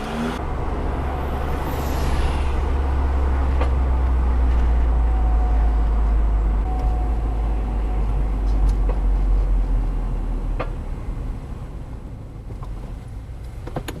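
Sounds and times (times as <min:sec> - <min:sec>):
car rumbling low: 0:00.0 - 0:14.0.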